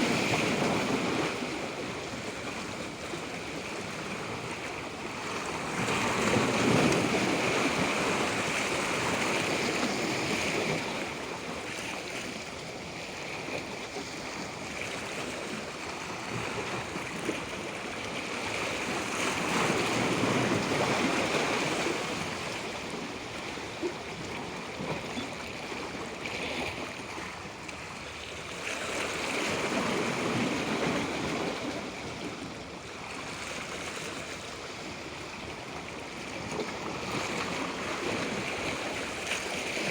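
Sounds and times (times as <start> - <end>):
waves washing in: 0.0 - 39.9.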